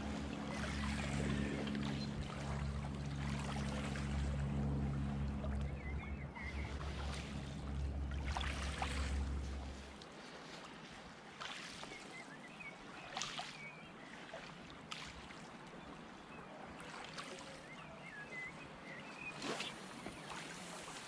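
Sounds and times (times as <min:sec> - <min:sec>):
small waves lapping: 0:00.0 - 0:21.0.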